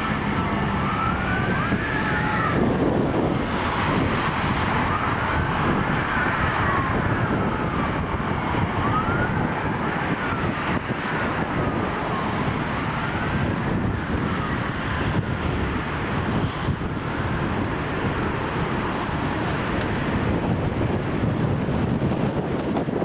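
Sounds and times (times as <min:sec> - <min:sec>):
fire engine sirens wailing: 0:00.0 - 0:23.0
road noise: 0:00.0 - 0:23.0
wind on microphone: 0:00.0 - 0:23.0.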